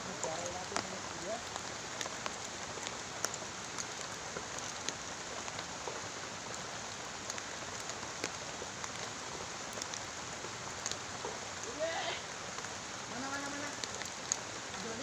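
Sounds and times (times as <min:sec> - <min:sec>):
raindrops ticking on surfaces: 0:00.0 - 0:15.0
steady rain hiss: 0:00.0 - 0:15.0.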